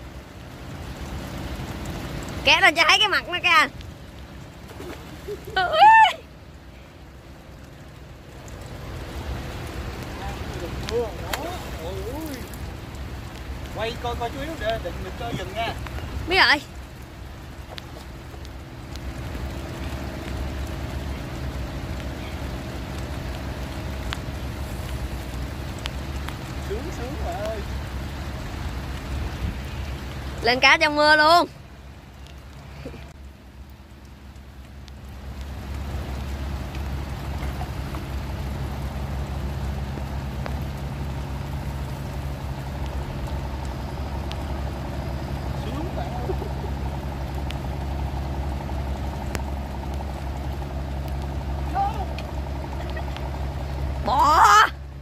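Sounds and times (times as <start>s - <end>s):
low engine hum: 0.0s - 55.0s
low rumble: 0.0s - 55.0s
rain falling on river: 0.0s - 55.0s.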